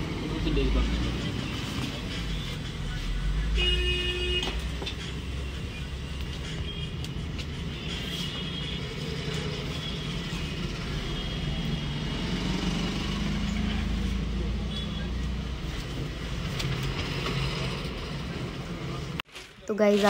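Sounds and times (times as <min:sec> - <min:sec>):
road traffic rumble: 0:00.0 - 0:19.3.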